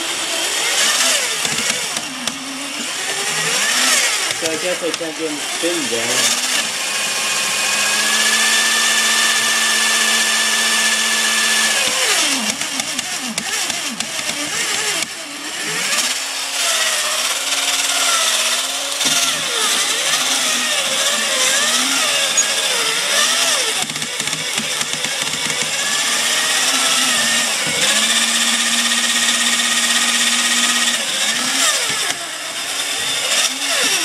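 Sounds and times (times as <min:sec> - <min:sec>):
toy robot motor and gears whirring: 0:00.0 - 0:34.0.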